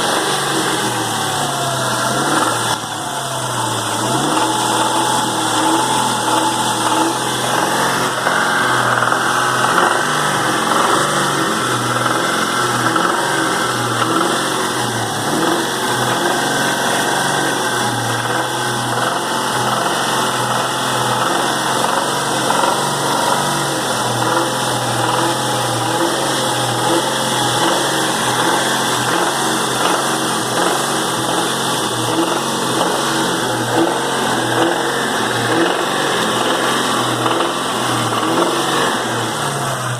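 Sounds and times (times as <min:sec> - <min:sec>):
car engine running: 0:00.0 - 0:39.9
engine knocking: 0:00.0 - 0:39.9.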